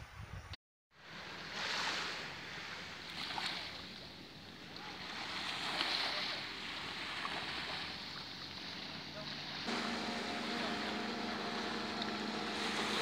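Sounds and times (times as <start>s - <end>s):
wind: 0.0s - 13.0s
sea waves washing on shore: 1.0s - 13.0s.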